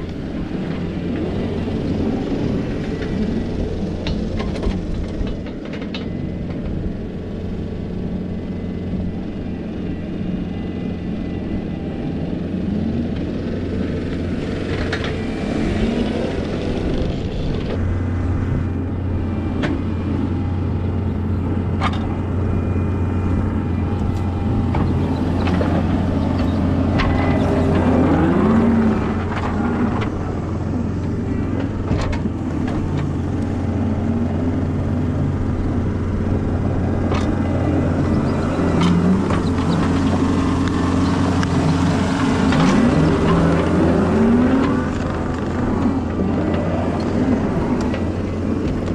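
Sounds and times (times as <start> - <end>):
diesel engine under load: 0.0 - 48.9.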